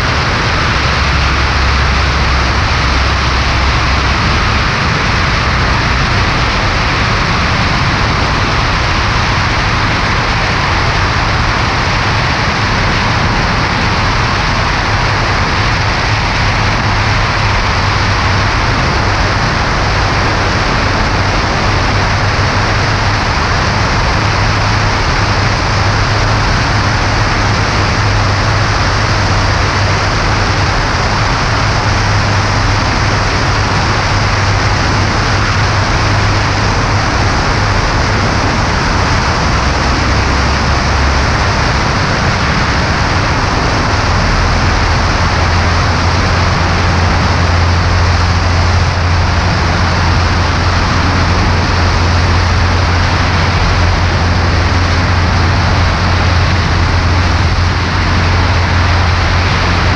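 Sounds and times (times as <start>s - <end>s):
constant low hum: 0.0s - 59.9s
light plane engine and propeller: 0.0s - 59.9s
loud wind noise: 0.0s - 59.9s.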